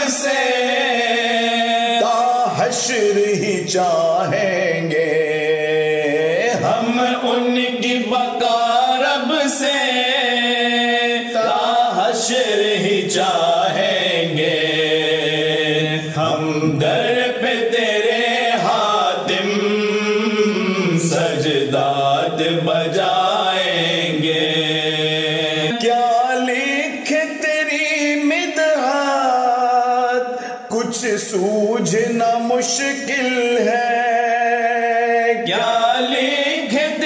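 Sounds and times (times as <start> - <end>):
voices chanting devotional poem: 0.0 - 37.0.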